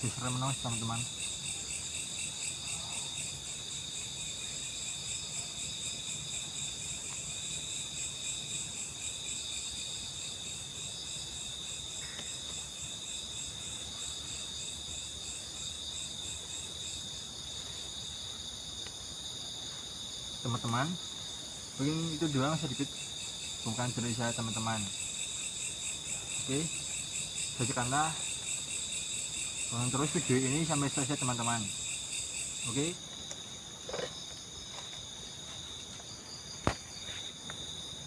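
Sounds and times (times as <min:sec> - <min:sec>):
crickets and insects chirping: 0:00.0 - 0:38.0.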